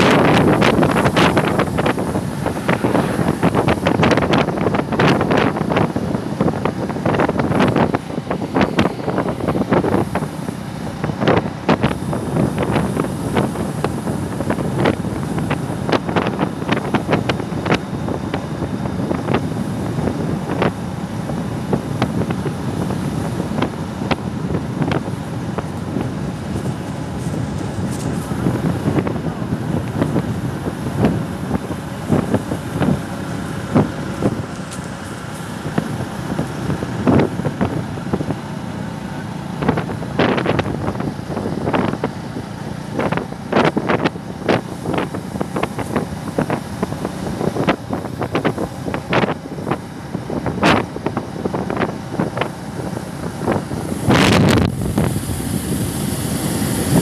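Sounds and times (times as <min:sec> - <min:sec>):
motorcycle ride rush: 0:00.0 - 0:57.0
wind buffeting microphone: 0:00.0 - 0:57.0.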